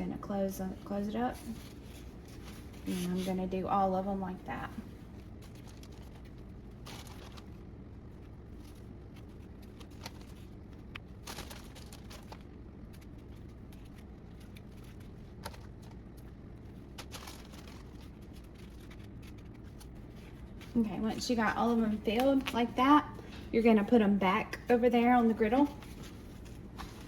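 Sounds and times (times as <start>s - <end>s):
steady low hum: 0.0s - 27.0s
tortillas rustling: 1.0s - 23.4s, 25.4s - 27.0s.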